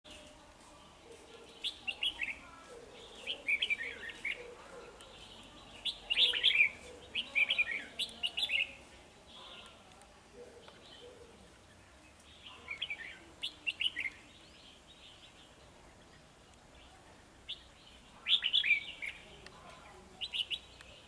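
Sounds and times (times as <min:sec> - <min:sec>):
bird singing warbled phrases: 0:00.1 - 0:21.0.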